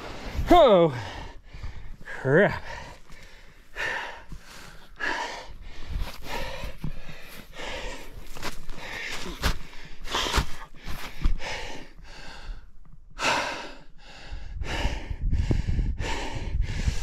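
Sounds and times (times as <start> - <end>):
person panting hard: 0.0 - 17.0.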